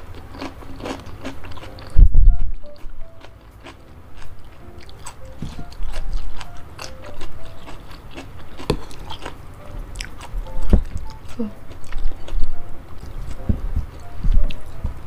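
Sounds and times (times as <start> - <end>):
wet chewing with mouth clicks: 0.0 - 15.0.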